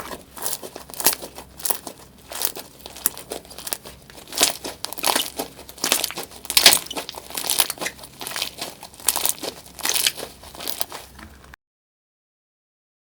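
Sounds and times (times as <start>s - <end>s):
slime squeezed crackling: 0.0s - 11.5s.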